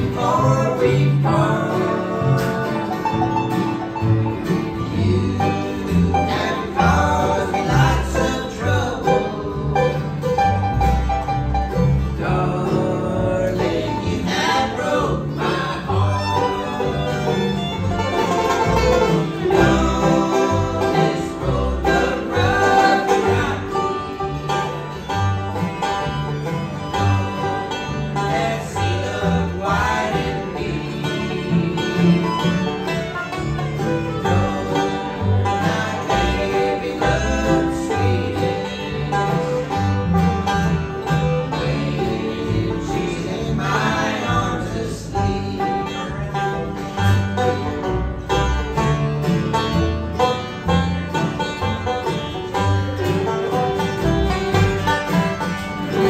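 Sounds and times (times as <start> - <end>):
acoustic bluegrass band: 0.0 - 56.0
banjo: 0.0 - 56.0
bass line: 0.0 - 56.0.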